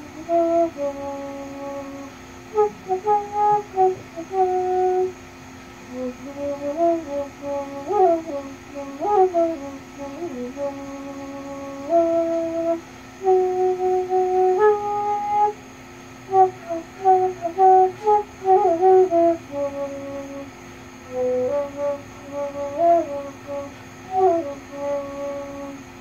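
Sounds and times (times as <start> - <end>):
bamboo flute melody: 0.0 - 5.1, 5.9 - 15.6, 16.3 - 20.4, 21.1 - 25.8
cicadas buzzing: 0.0 - 26.0.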